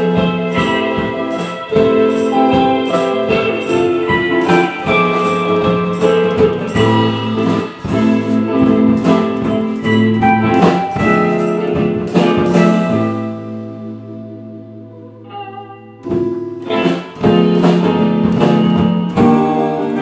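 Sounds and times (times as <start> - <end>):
percussive strikes: 0.0 - 14.4, 15.2 - 20.0
band playing a song: 0.0 - 20.0
plucked guitar: 0.0 - 20.0.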